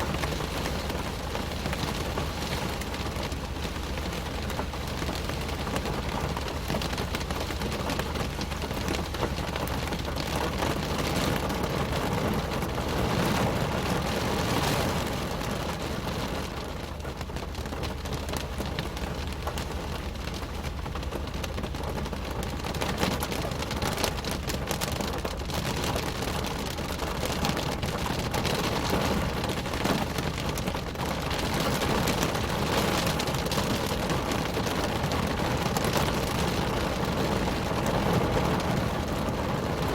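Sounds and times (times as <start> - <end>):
rain pattering on car roof: 0.0 - 39.9.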